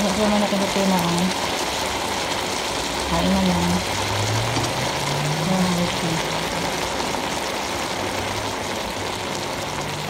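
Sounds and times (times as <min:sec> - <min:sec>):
stir-fry sizzling in a wok: 0:00.0 - 0:10.0.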